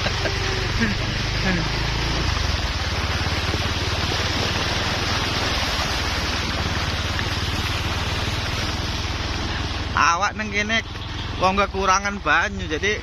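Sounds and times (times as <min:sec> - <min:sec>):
splashing churning water: 0:00.0 - 0:13.0.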